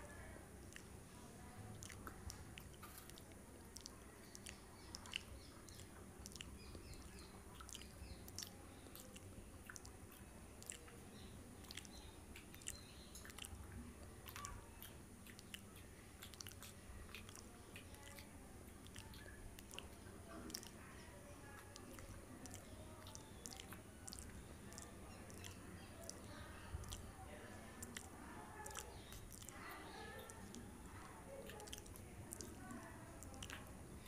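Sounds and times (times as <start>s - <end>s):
close-up chewing with mouth clicks: 0.0s - 34.0s.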